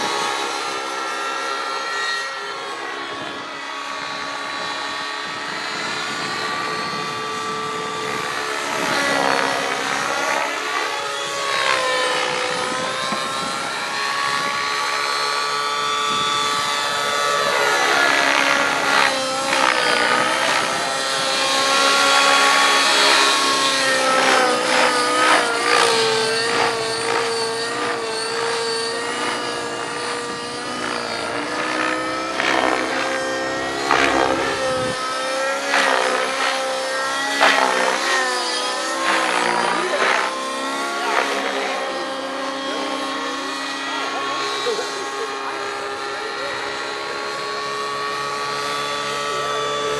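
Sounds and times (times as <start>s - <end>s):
model helicopter rotor whine: 0.0s - 49.9s
rapid rotor blade chop: 0.0s - 49.9s.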